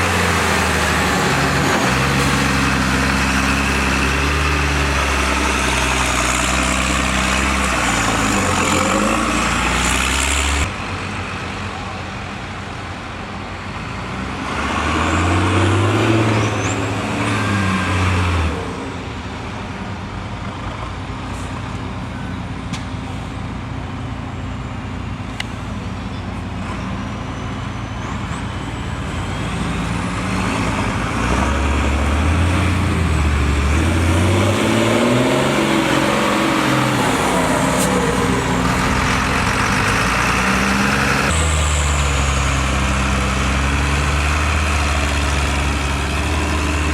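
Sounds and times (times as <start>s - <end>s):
truck diesel engine revving: 0.0s - 22.1s, 25.0s - 46.9s.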